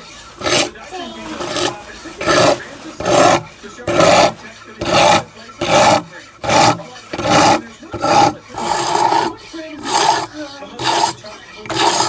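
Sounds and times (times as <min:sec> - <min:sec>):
knife blade rasping on sharpening plate: 0:01.4 - 0:12.0.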